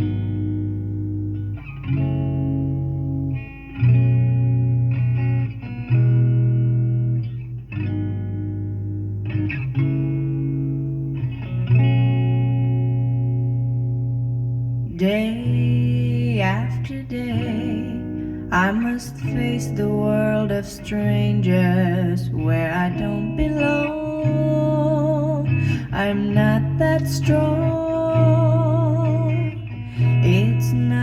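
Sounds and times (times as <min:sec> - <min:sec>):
pop ballad on car stereo: 0:00.0 - 0:31.0.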